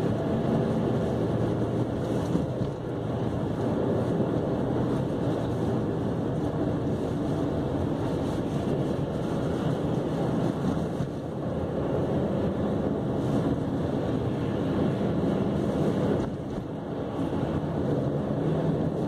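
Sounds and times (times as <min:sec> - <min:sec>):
low engine drone: 0:00.0 - 0:19.0
tyres on slushy road: 0:00.0 - 0:19.0.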